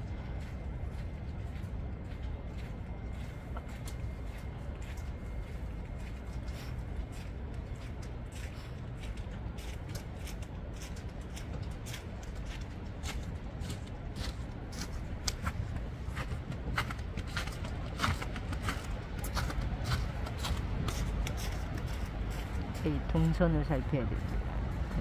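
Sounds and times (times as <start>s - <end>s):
low rumble: 0.0s - 25.0s
snow crunching: 3.9s - 25.0s.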